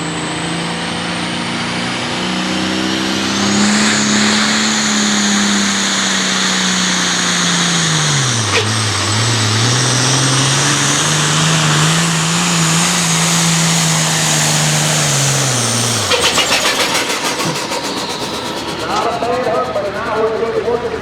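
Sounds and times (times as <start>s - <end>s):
high whine: 0.0s - 21.0s
tractor engine running under load: 0.0s - 21.0s.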